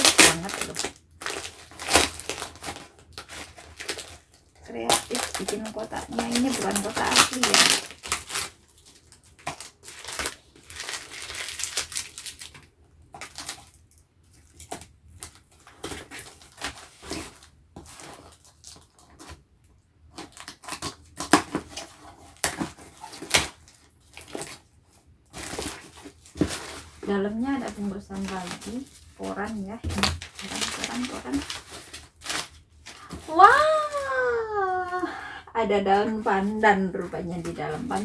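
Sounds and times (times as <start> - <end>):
plastic packaging crinkling and tearing: 0.0 - 35.4, 36.0 - 38.0.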